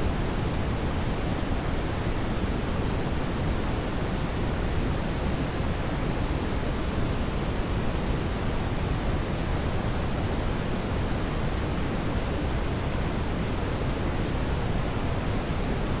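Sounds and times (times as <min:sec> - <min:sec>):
brown noise hiss: 0:00.0 - 0:16.0.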